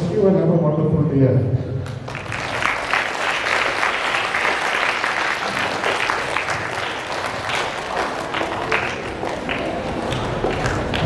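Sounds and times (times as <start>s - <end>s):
audience clapping: 1.8s - 11.0s.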